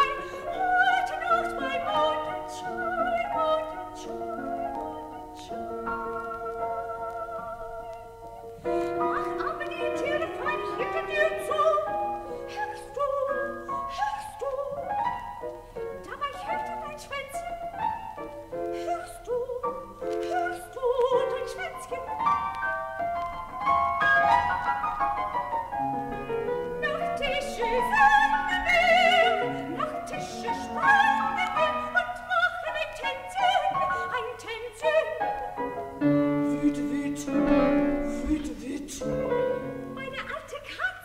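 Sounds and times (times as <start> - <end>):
soprano singing with vibrato: 0.0 - 24.7, 25.7 - 41.0
piano accompaniment: 0.0 - 41.0.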